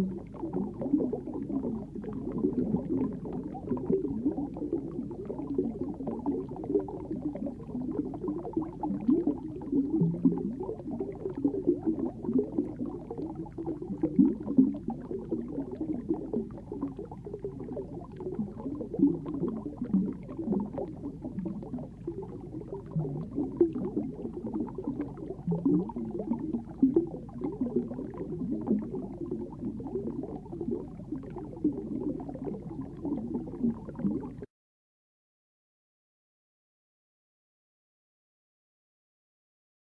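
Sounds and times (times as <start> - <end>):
underwater bubbling and gurgling: 0.0 - 34.5.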